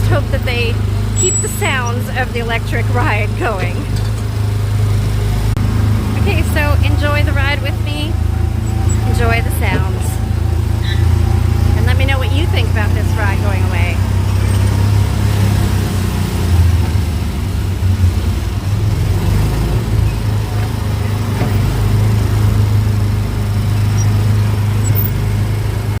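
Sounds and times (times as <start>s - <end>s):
small gasoline engine running: 0.0s - 26.0s.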